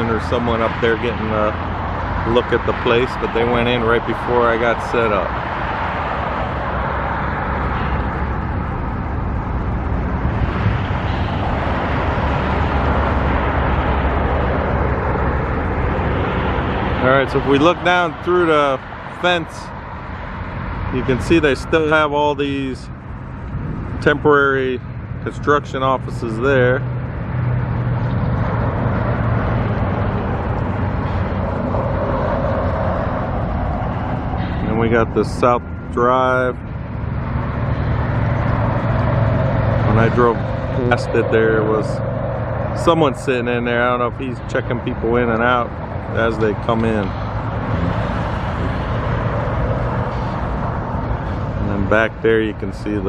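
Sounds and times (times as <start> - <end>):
higher engine tone: 0.0 - 53.0
low engine hum: 0.0 - 53.0
vehicle rumble and hiss: 0.0 - 53.0.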